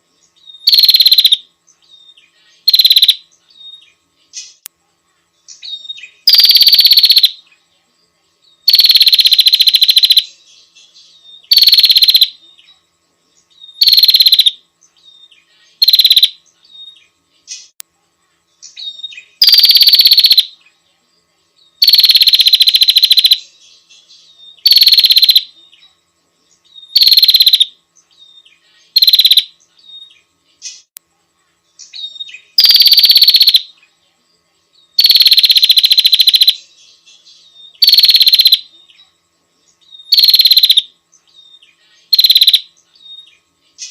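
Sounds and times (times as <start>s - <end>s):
bird buzzing trills: 0.0s - 4.6s, 5.3s - 43.9s.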